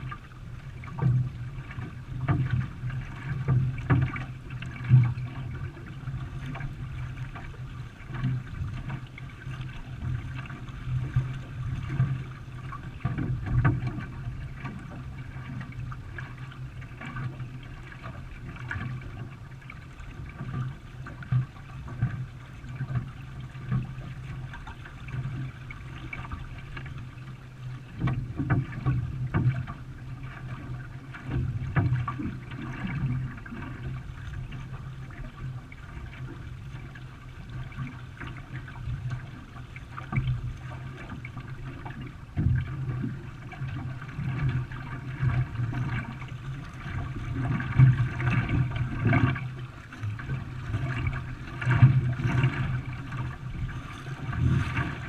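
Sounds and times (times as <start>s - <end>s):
paddles pulling through water: 0.0s - 55.0s
water splashing and gurgling: 0.0s - 55.0s.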